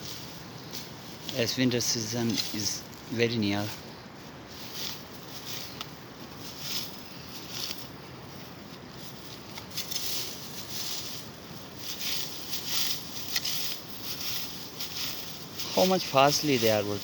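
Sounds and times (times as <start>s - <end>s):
grass swishing and rustling: 0.0s - 17.0s.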